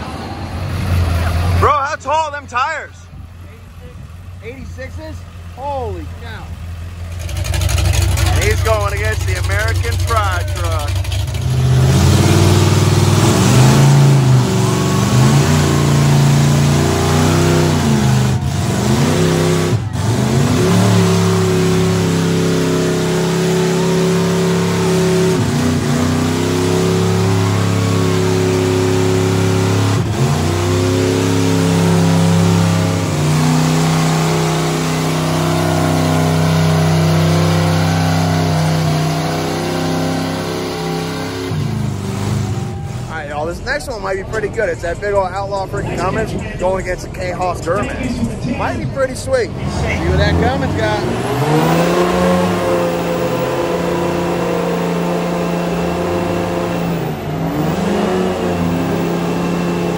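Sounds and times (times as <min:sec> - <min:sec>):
truck engines revving hard: 0:00.0 - 0:59.9.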